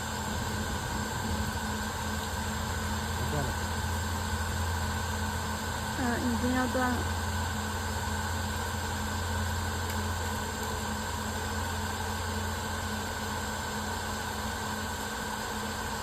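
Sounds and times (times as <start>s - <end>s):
laser cutter mechanical hum: 0.0s - 16.0s.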